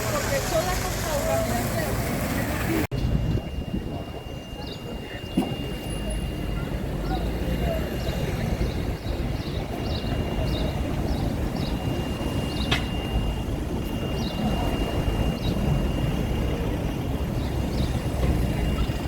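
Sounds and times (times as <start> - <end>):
traffic rumble: 0.0 - 19.0
faint steady high tone: 3.0 - 19.0.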